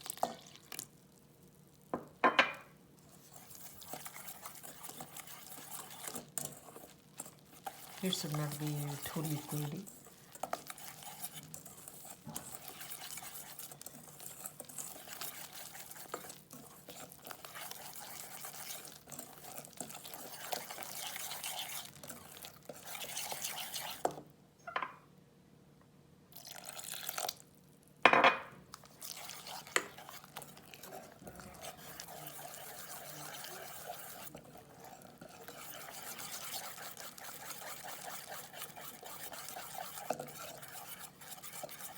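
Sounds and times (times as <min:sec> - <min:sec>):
batter stirred in a bowl: 0:00.0 - 0:24.4, 0:26.3 - 0:41.9.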